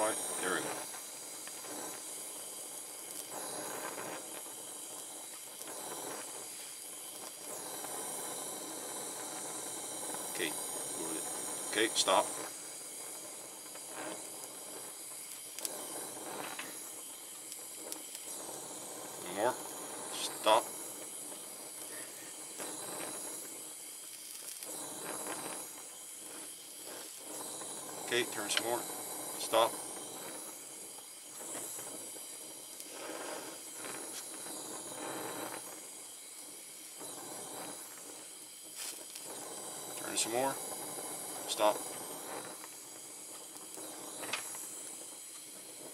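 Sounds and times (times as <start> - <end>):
torch flame hissing: 0.0 - 45.9.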